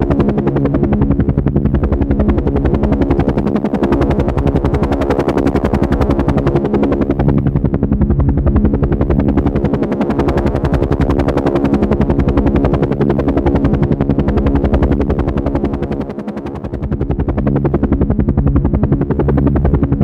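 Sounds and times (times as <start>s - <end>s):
helicopter engine drone: 0.0s - 20.0s
helicopter rotor blades beating: 0.0s - 20.0s.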